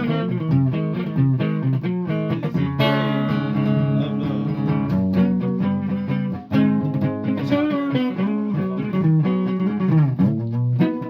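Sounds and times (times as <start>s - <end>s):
guitar plucked and strummed: 0.0s - 11.0s.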